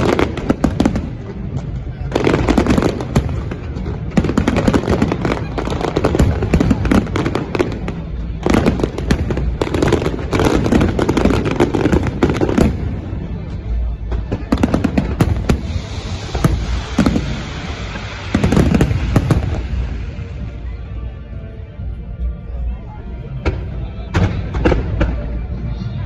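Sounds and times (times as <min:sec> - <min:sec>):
firework crackling hiss: 0:00.0 - 0:21.9.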